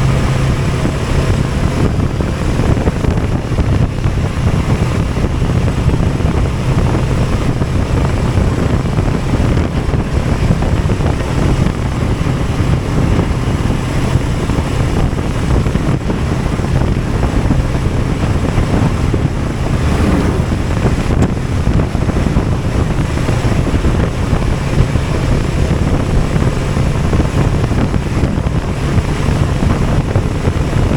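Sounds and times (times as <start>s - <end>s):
low vehicle drone: 0.0s - 30.9s
wind rush on microphone: 0.0s - 30.9s.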